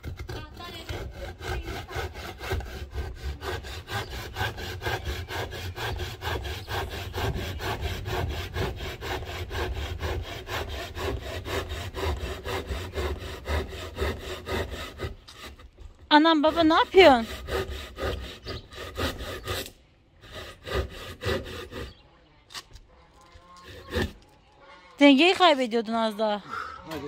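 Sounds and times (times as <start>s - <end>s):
handsaw cutting wood: 0.0s - 22.0s, 23.6s - 24.2s.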